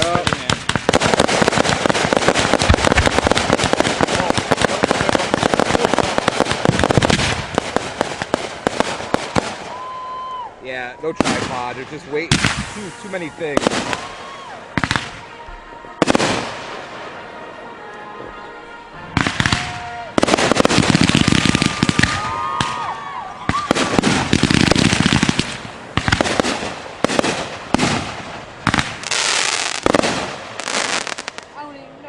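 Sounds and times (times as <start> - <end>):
fireworks whistling: 0.0 - 17.3, 19.2 - 31.6
fireworks crackling: 0.0 - 32.0
fireworks reports: 0.0 - 32.0.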